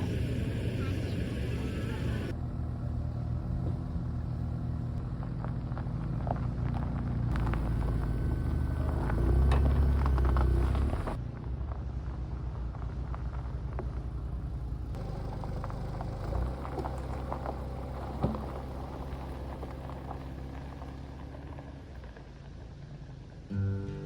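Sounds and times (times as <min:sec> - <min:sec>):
car driving on road: 0:00.0 - 0:23.6.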